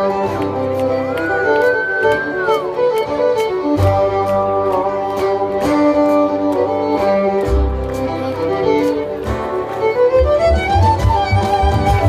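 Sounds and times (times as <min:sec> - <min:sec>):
guitar: 0:00.0 - 0:12.0
violin melody: 0:00.0 - 0:12.0.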